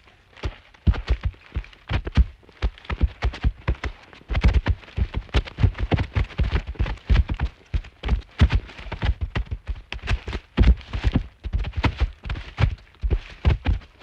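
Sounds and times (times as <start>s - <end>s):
elephant footsteps heavy thuds: 0.4s - 14.0s.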